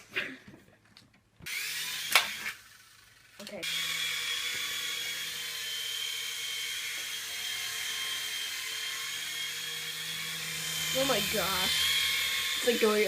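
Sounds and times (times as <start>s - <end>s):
toy helicopter motor whine: 1.5s - 13.0s.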